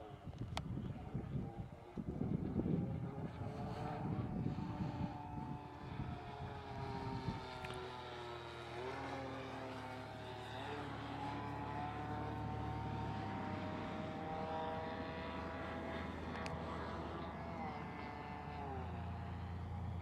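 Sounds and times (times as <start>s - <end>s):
model airplane engine buzzing: 0.0s - 20.0s.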